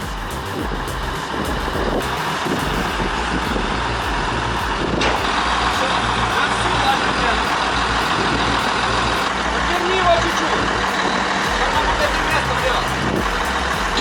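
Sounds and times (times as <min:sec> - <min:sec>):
bulldozer diesel engine running: 0:00.0 - 0:14.0
faint regular ticking: 0:00.0 - 0:14.0.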